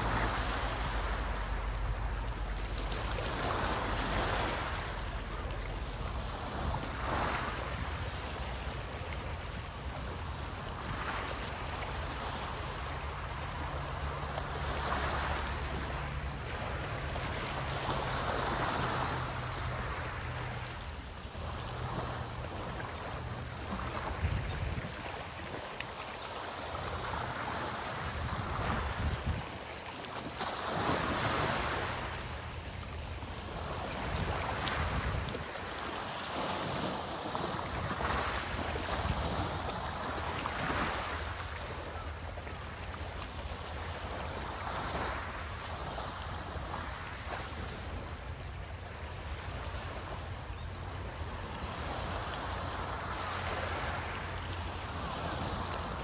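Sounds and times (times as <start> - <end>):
wind rumble on microphone: 0.0 - 25.6, 26.7 - 29.7, 30.5 - 56.0
waves washing onto shore: 0.0 - 56.0.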